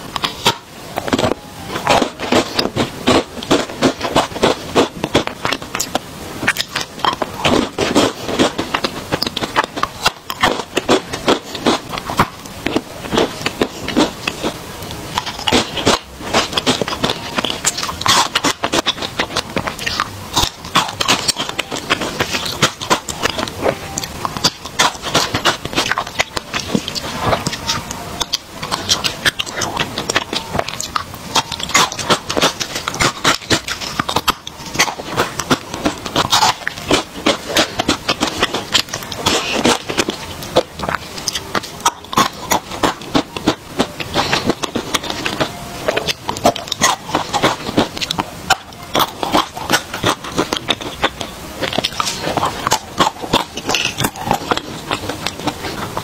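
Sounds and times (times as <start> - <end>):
chewing and crunching candies: 0.0 - 56.0.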